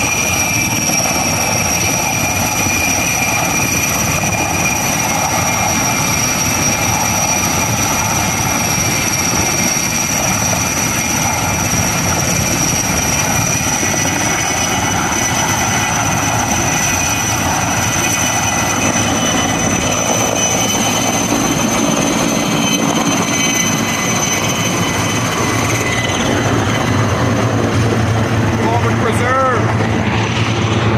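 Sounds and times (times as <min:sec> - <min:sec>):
helicopter rotor and turbine noise: 0:00.0 - 0:30.9
high turbine whine: 0:00.0 - 0:30.9.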